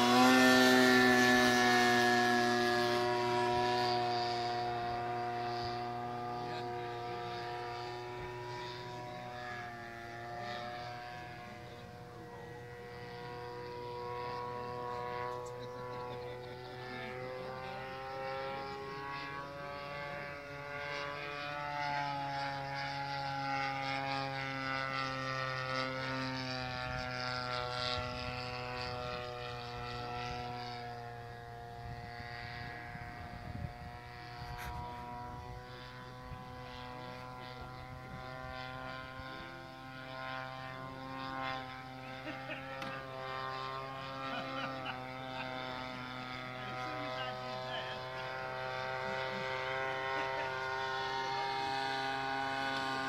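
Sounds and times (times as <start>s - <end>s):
model plane propeller drone: 0.0s - 53.0s.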